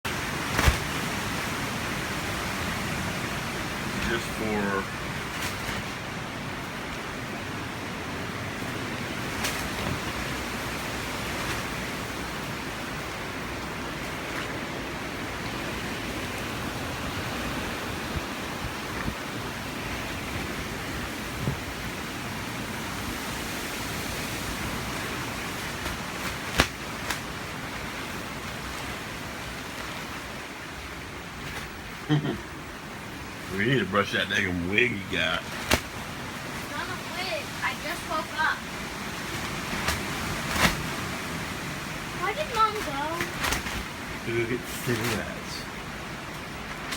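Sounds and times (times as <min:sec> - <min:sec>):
hurricane wind: 0:00.0 - 0:46.9
rain: 0:00.0 - 0:46.9.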